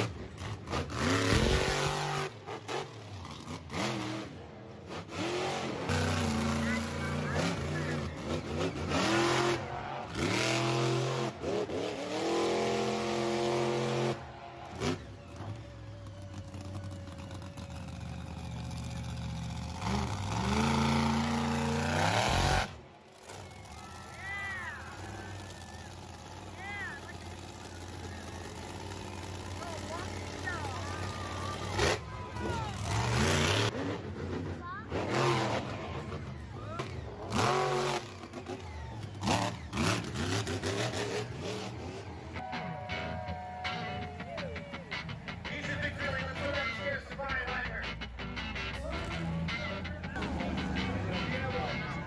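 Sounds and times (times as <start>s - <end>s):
monster truck engine revving: 0.0s - 52.0s.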